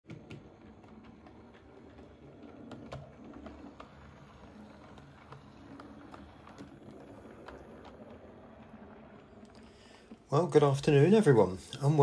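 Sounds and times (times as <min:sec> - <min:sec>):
wheels clicking over rail joints: 0:00.1 - 0:12.0.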